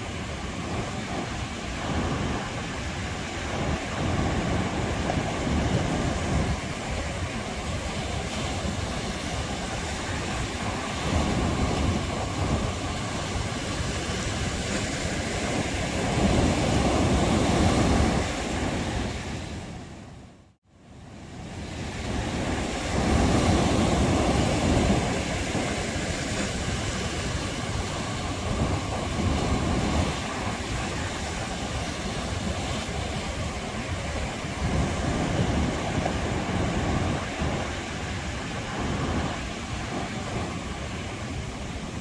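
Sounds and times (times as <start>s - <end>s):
ocean surf breaking on beach: 0.0s - 42.0s.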